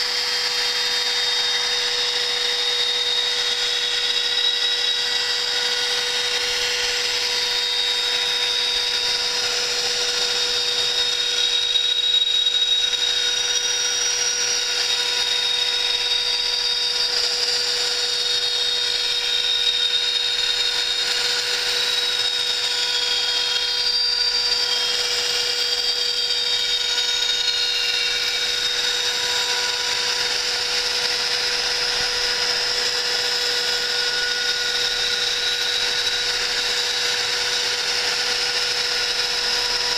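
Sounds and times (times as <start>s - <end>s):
metal cutting noise: 0.0s - 39.9s
milling machine spindle: 0.0s - 39.9s.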